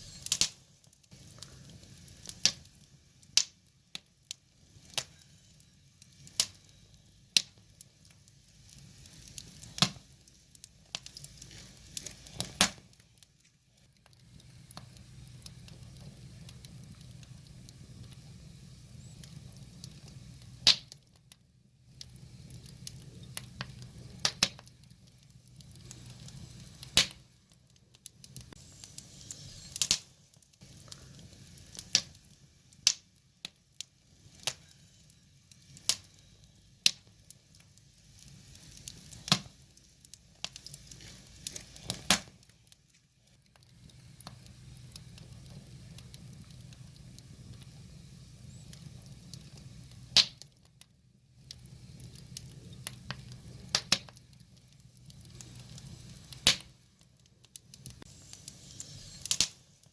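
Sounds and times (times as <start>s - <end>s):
fire crackling and popping: 0.0s - 59.9s
flames hissing and rumbling: 0.0s - 59.9s.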